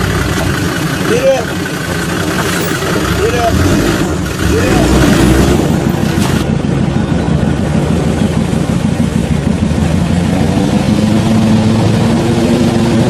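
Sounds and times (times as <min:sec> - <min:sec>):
off-road vehicle engine under load: 0:00.0 - 0:13.0.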